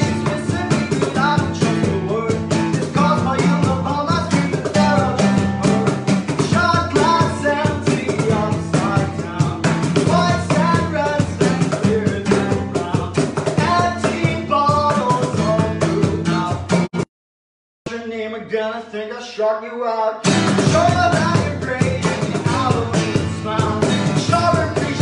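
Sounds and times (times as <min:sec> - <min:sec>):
young man singing: 0:00.0 - 0:16.9, 0:17.9 - 0:25.0
cajon played by hand: 0:00.0 - 0:17.0, 0:20.2 - 0:25.0
acoustic guitar strumming: 0:00.0 - 0:17.1, 0:20.2 - 0:25.0.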